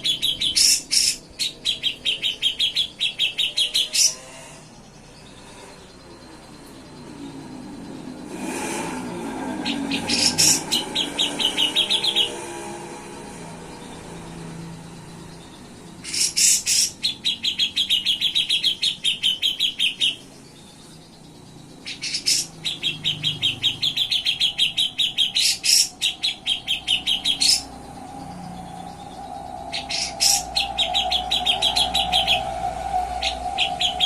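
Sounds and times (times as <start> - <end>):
bulbul singing trills: 0.0 - 34.0.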